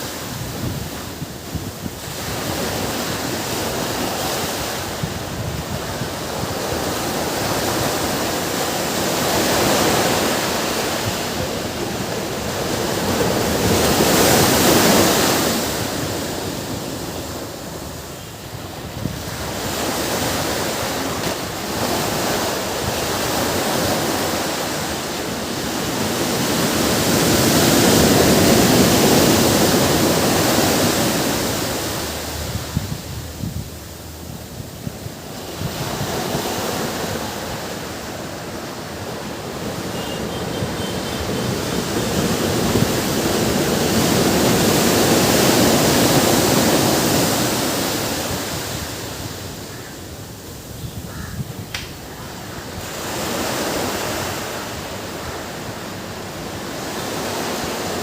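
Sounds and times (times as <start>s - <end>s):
ocean waves breaking on beach: 0.0s - 58.0s
wind on microphone: 0.0s - 58.0s.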